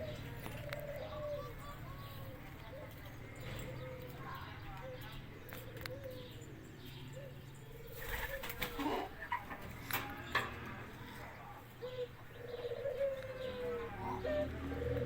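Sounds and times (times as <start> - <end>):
birds cooing: 0.0 - 15.0.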